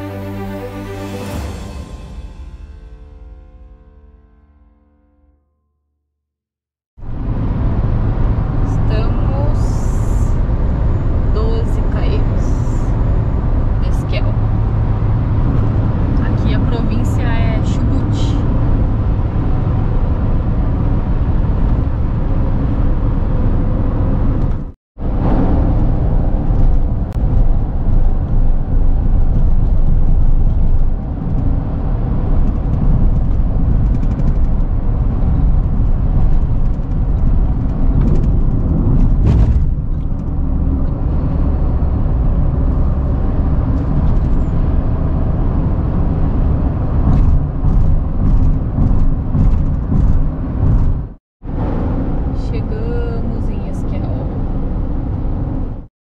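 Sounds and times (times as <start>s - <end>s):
car driving at road speed: 7.0s - 55.9s.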